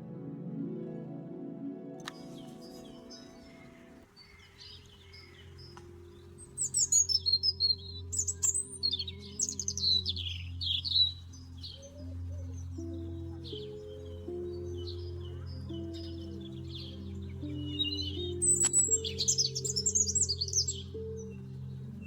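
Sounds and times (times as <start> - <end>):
soft background music: 0.0 - 22.0
songbird singing: 2.0 - 22.0.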